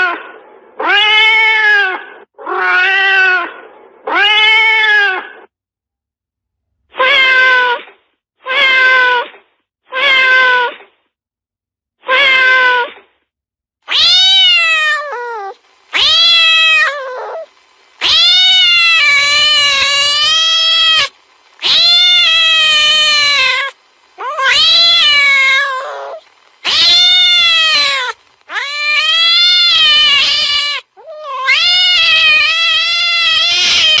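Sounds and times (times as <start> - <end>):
cat meowing and yowling: 0.8 - 3.5, 4.1 - 5.4, 7.0 - 7.8, 8.4 - 9.3, 9.9 - 10.8, 12.0 - 13.0, 13.9 - 34.0.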